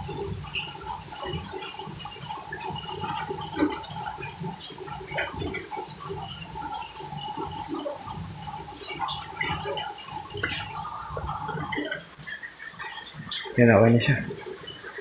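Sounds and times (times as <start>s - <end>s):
water churning in washing machine: 0.0s - 15.0s.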